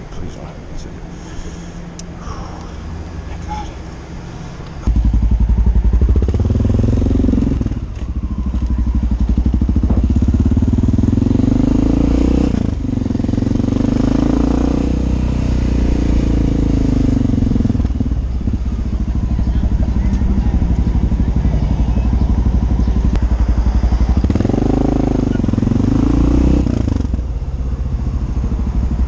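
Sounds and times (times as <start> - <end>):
motorcycle engine accelerating: 4.8 - 29.0.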